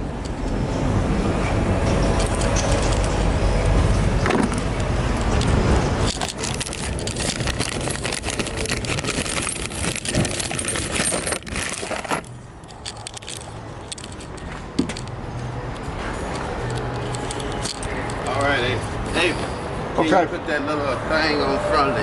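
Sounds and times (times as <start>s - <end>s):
metal tools clinking and rattling: 1.8s - 19.8s.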